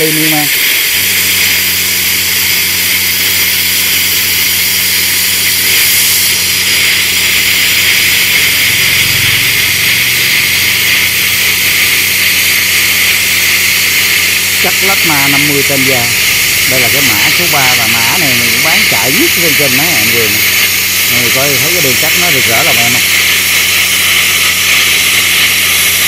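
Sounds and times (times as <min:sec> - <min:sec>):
plasma cutter hissing: 0:00.0 - 0:26.0.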